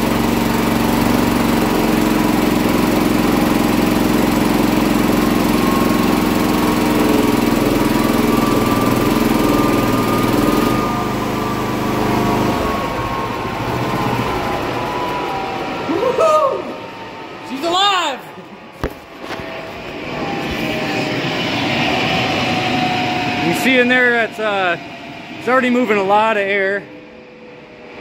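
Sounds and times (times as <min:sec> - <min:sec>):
small gasoline engine running: 0:00.0 - 0:16.0, 0:18.8 - 0:27.8
turbine whine: 0:00.0 - 0:28.0.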